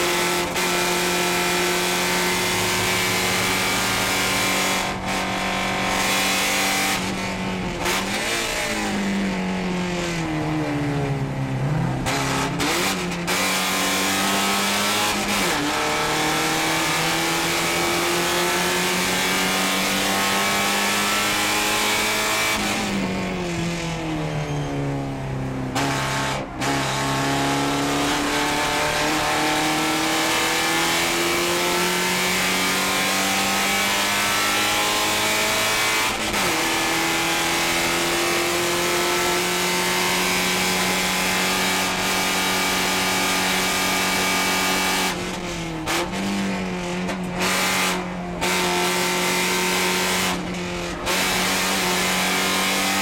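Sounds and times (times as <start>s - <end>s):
race car engine from inside cabin: 0.0s - 53.0s.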